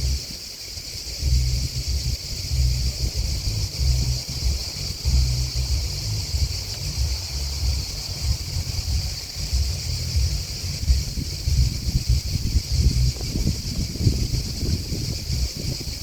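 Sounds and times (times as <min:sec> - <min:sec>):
chirping insects: 0:00.0 - 0:16.0
wind buffeting microphone: 0:00.0 - 0:16.0.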